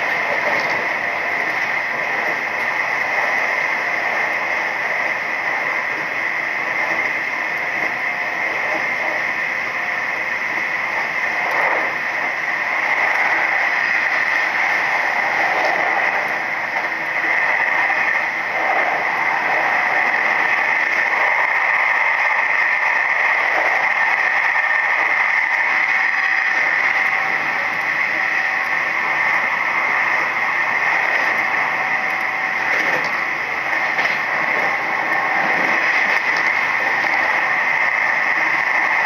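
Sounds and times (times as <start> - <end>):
electric train running at speed: 0.0 - 39.0.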